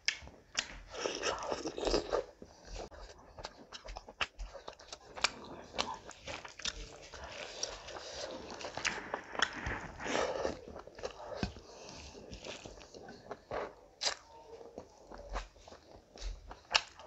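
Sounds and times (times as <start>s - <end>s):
person chewing with wet smacks: 0.0s - 17.0s.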